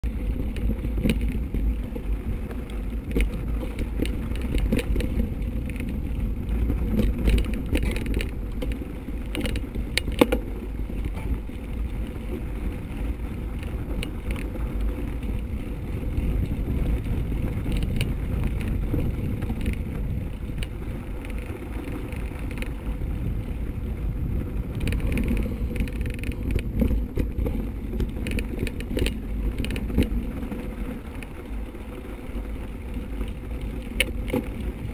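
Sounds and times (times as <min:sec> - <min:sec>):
bike rattles and knocks: 0:00.0 - 0:34.9
wind and tyre rumble: 0:00.0 - 0:34.9.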